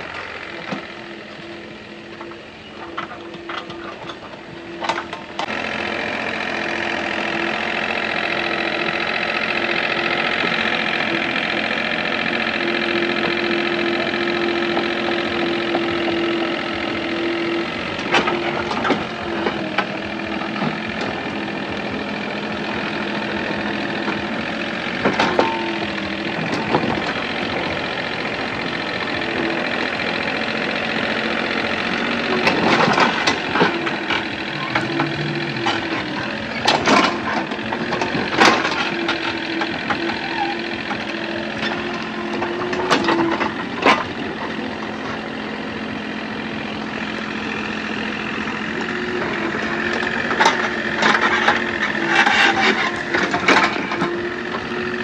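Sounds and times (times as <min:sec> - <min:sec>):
engine humming: 0:00.0 - 0:55.0.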